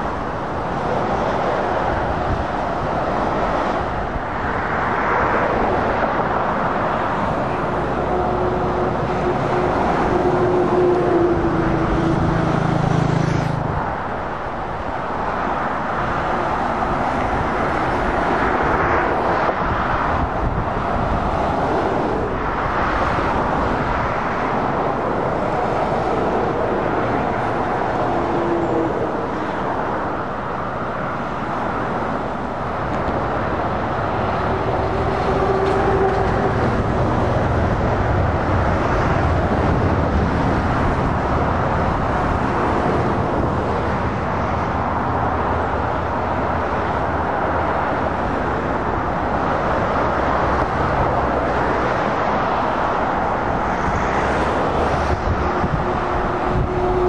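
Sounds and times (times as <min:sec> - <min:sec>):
lorry and car engines: 0:00.0 - 0:57.0.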